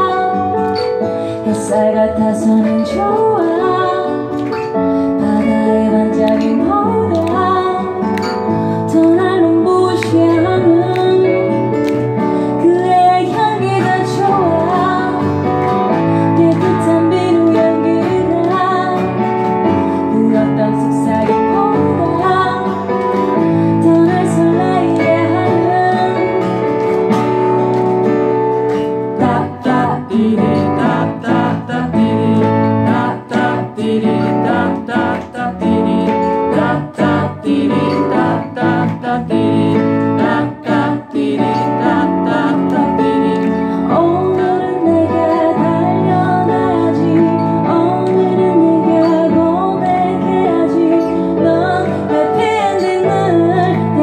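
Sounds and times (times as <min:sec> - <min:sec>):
woman singing: 0:00.0 - 0:27.0, 0:29.0 - 0:54.0.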